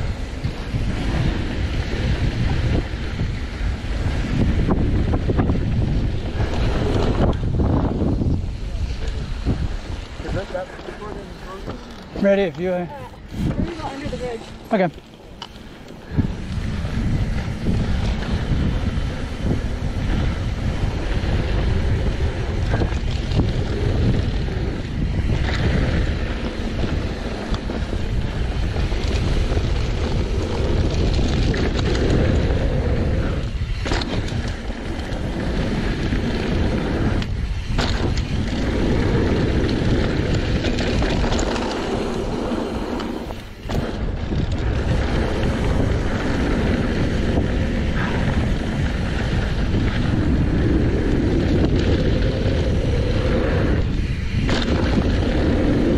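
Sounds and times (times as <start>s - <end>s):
mountain bike rattling: 0.0s - 55.9s
tyres running on dirt trail: 0.0s - 55.9s
wind rush on microphone: 0.0s - 55.9s.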